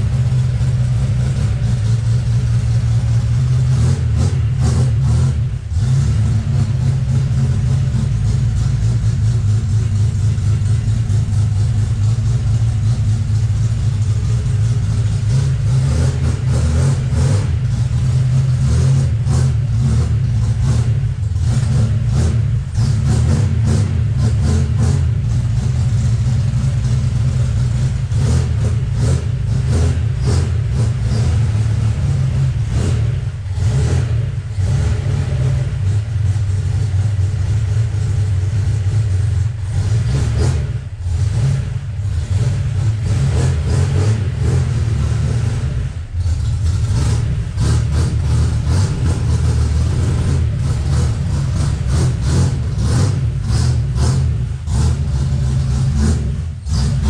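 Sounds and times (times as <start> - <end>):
car engine exhaust rumble: 0.0 - 57.0.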